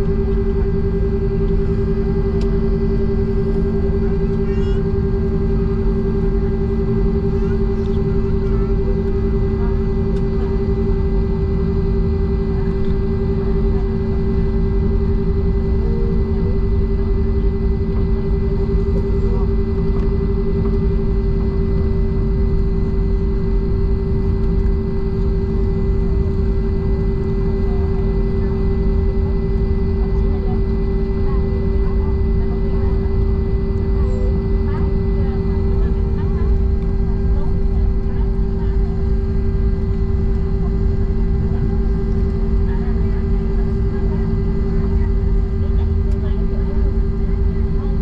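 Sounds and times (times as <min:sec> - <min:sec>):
jet engine roar in cabin: 0:00.0 - 0:48.0.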